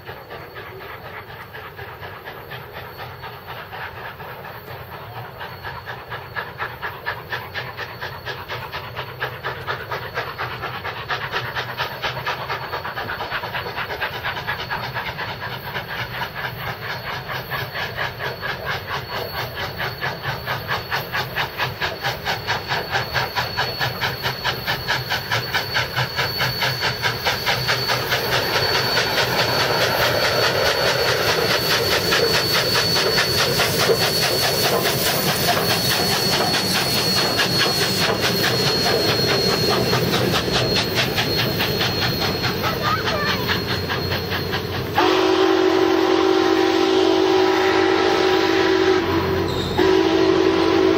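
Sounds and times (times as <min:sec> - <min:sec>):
steam locomotive exhaust chuffs: 0:00.0 - 0:50.9.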